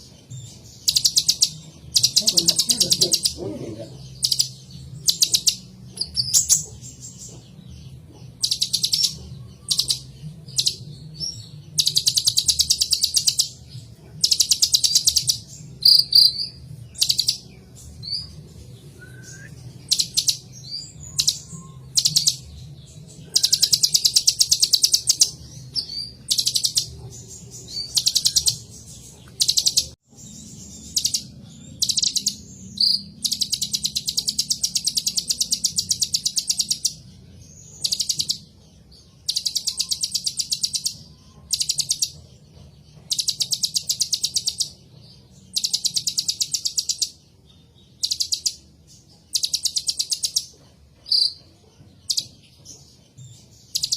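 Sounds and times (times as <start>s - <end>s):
bird singing rapid trills: 0.0s - 53.9s.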